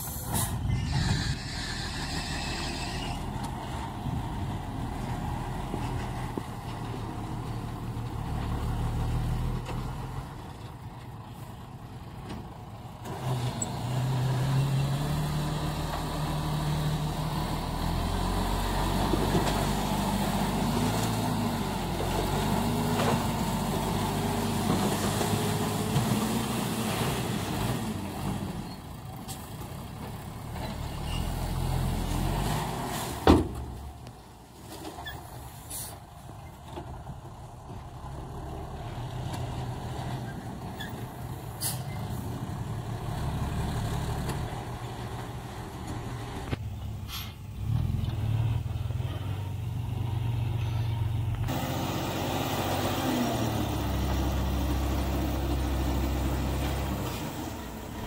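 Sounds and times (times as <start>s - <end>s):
dump truck engine revving: 0.0s - 10.5s, 12.7s - 33.6s, 37.0s - 58.0s.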